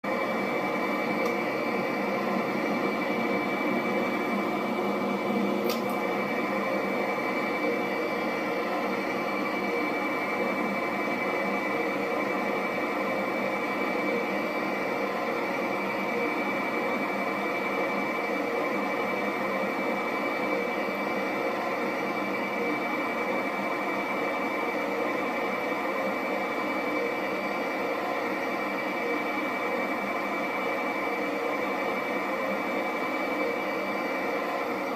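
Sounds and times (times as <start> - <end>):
jet engine running: 0.1 - 34.9.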